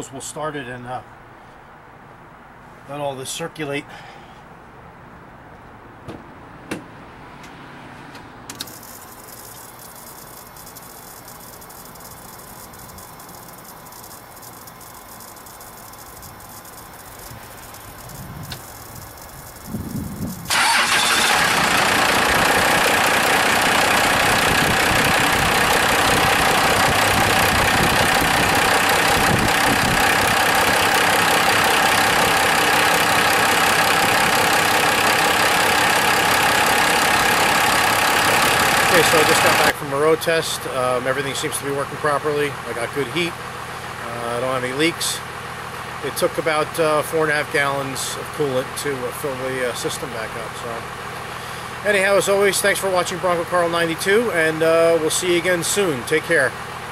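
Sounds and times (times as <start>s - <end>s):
diesel engine cranking and idling: 6.7s - 56.9s.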